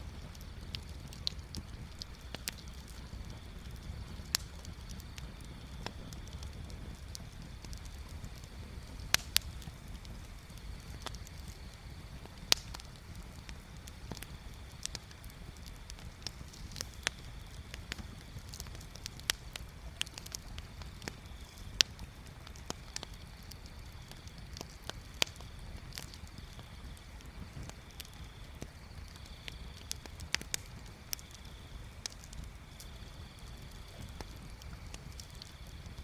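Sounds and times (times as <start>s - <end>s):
bonfire crackling: 0.0s - 36.0s.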